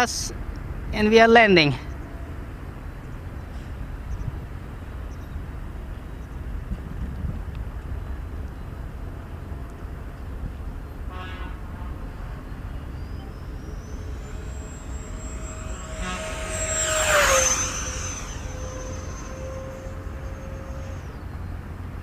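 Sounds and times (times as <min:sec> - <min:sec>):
electric ducted fan jet whining: 0:00.0 - 0:22.0.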